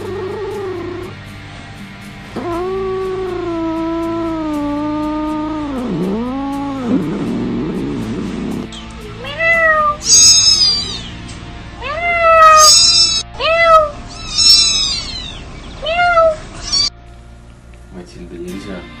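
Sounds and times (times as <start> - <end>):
kittens meowing: 0.0 - 1.2, 2.4 - 11.2, 11.8 - 16.9.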